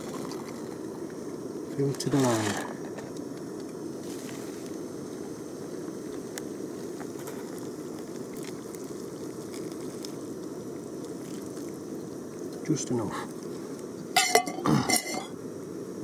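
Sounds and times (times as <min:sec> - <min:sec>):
camping stove hissing: 0:00.0 - 0:16.0.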